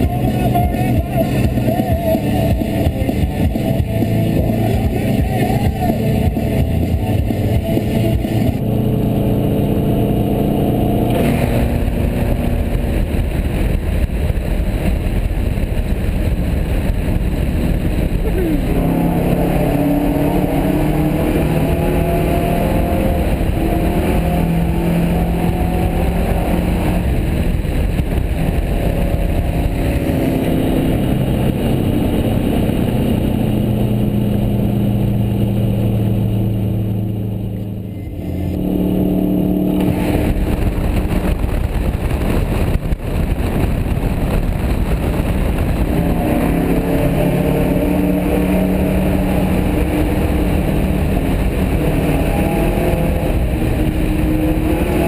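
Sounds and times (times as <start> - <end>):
car engine at speed: 0.0 - 55.0
road rumble: 0.0 - 55.0.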